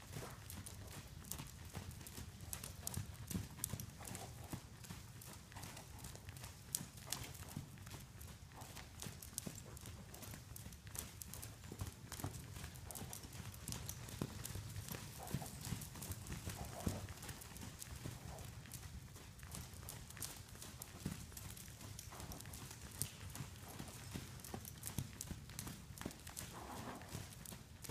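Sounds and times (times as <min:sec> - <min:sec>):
horse hoofbeats on sand: 0:00.0 - 0:27.9.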